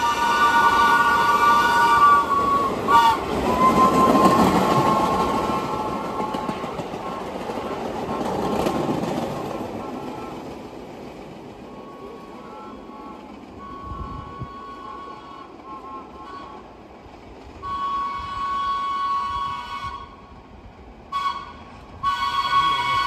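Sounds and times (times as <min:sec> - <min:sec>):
train horn toot: 0:00.0 - 0:08.6, 0:09.7 - 0:10.6, 0:11.7 - 0:16.8, 0:17.6 - 0:20.3, 0:21.1 - 0:23.0
subway train rumble and clatter: 0:00.0 - 0:23.0.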